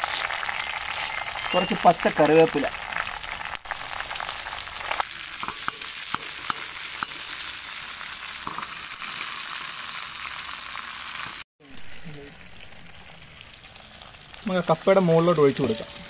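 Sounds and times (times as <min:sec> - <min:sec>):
leaves sizzling in hot oil: 0:00.0 - 0:16.0
oil popping and crackling: 0:00.0 - 0:16.0.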